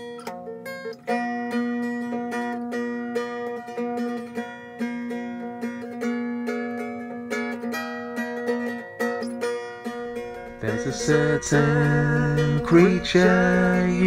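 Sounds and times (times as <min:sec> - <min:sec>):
acoustic guitar plucked notes: 0:00.0 - 0:14.0.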